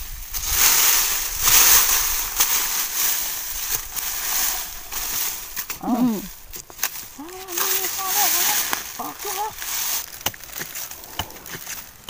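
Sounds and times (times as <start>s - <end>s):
dry leaf litter rustling: 0.0s - 12.0s.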